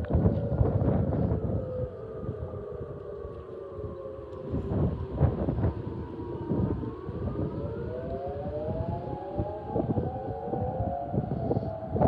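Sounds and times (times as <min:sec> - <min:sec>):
warning sirens wailing: 0:00.0 - 0:12.0
wind buffeting microphone: 0:00.0 - 0:12.0.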